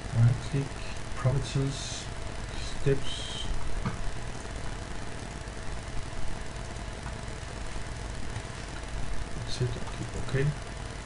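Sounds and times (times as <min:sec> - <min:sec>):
low background hum and hiss: 0:00.0 - 0:11.0.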